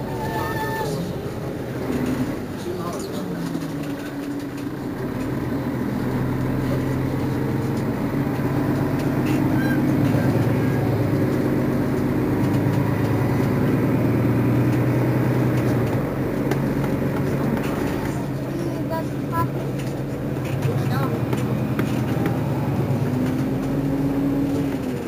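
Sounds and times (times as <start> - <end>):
bus engine idling: 0.0 - 25.0.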